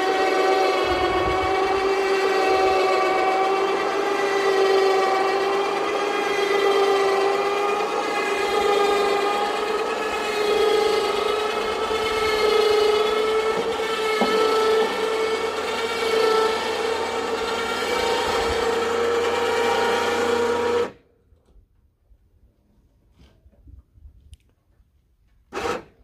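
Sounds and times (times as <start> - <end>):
electric winch motor whining: 0.0 - 21.0, 25.5 - 26.0.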